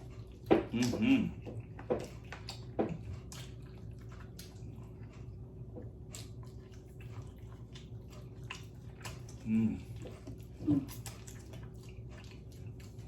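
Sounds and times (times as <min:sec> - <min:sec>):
chewing and lip-smacking: 0:00.0 - 0:13.0
steady low hum: 0:00.0 - 0:13.0.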